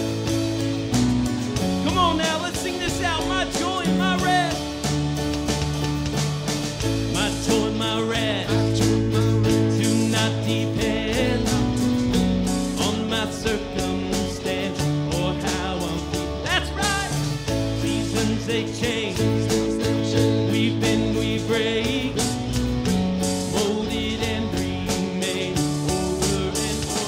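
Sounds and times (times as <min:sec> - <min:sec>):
acoustic guitar: 0:00.0 - 0:27.0
bass guitar: 0:00.0 - 0:27.0
drum kit beat: 0:00.0 - 0:27.0
electric guitar: 0:00.0 - 0:27.0
man singing: 0:01.8 - 0:04.8, 0:07.0 - 0:27.0.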